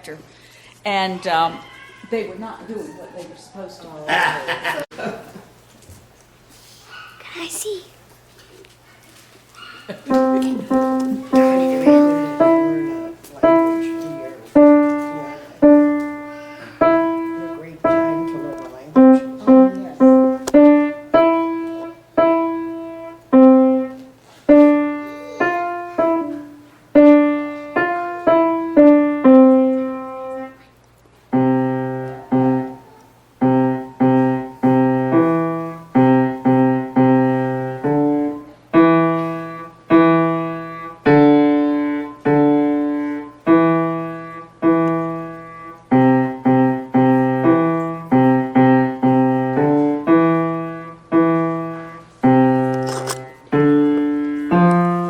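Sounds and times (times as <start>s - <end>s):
child playing piano melody: 10.1s - 30.7s, 31.3s - 55.0s.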